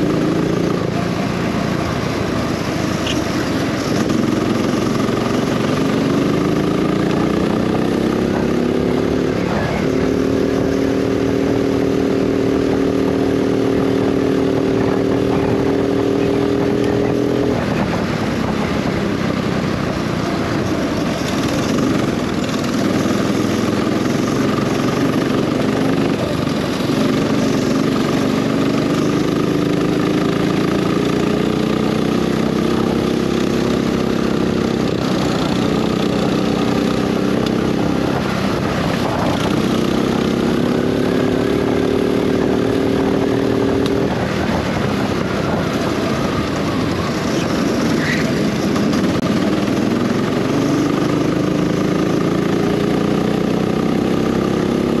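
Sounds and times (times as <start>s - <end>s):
go-kart engine: 0.0s - 55.0s.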